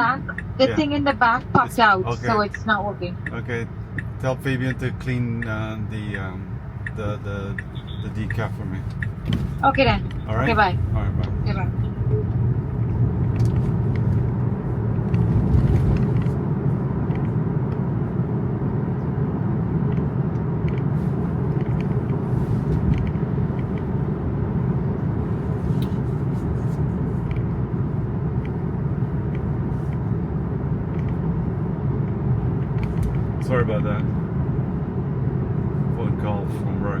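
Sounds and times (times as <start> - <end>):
road and tyre rumble in car: 0.0 - 37.0.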